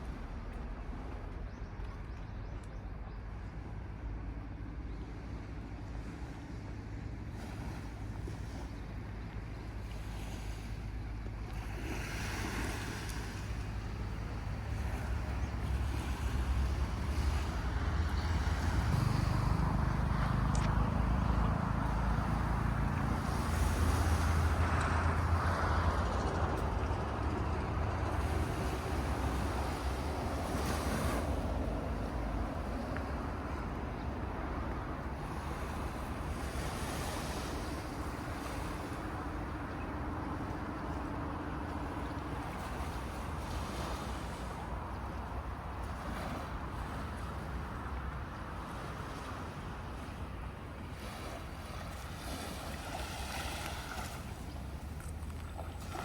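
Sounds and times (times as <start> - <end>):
sea waves breaking on shore: 5.5 - 56.0
wind rumbling on microphone: 9.8 - 56.0.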